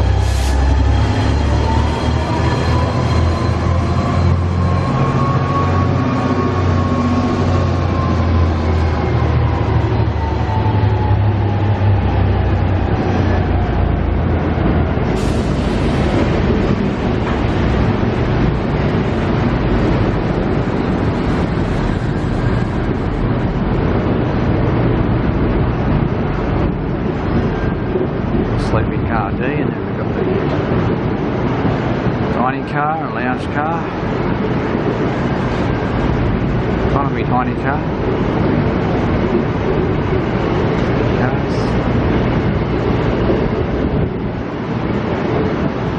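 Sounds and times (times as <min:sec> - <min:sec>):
diesel engine drone: 0:00.0 - 0:45.9
train carriages rumbling past: 0:00.0 - 0:45.9.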